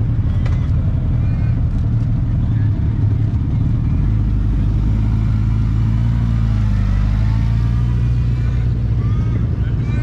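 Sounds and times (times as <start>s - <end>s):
motorcycle engine rumbling: 0.0s - 10.0s.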